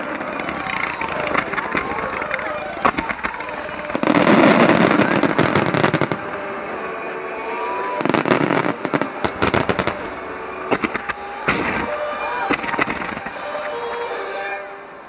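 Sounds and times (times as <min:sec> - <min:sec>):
fireworks bursting: 0:00.0 - 0:07.1, 0:07.7 - 0:14.2.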